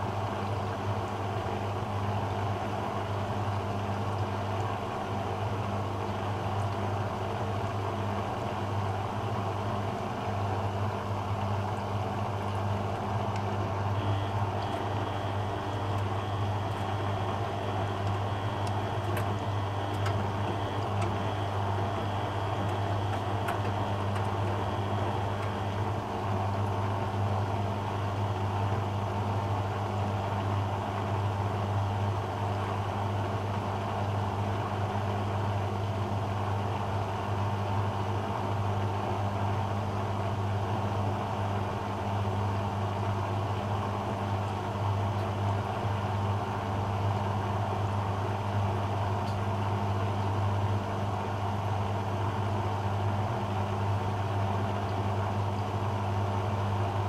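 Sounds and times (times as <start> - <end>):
washing machine motor humming: 0.0 - 37.8, 38.5 - 57.0.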